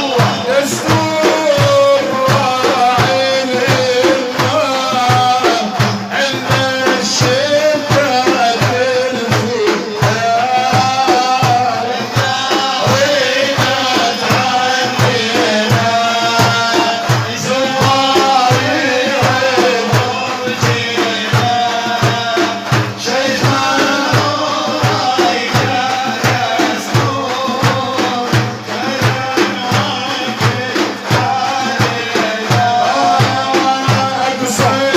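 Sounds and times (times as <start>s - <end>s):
man singing ornamented notes: 0.0s - 34.9s
steady drum beat: 0.0s - 34.9s.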